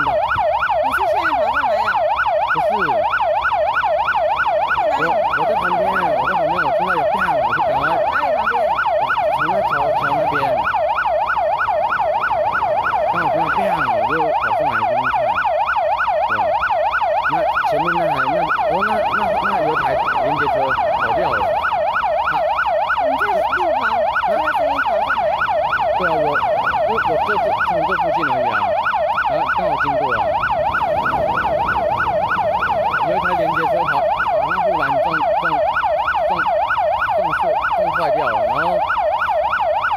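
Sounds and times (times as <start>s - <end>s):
siren yelping: 0.0s - 39.9s.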